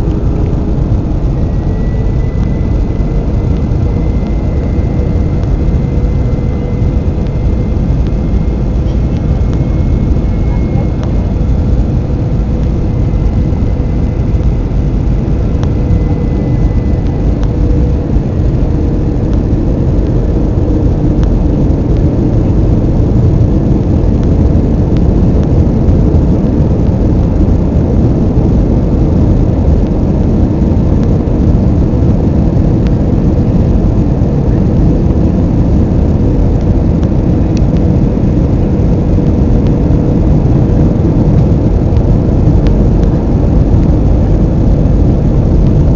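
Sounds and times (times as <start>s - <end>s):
airliner cabin rumble: 0.0s - 45.9s
faint steady hum: 0.0s - 45.9s.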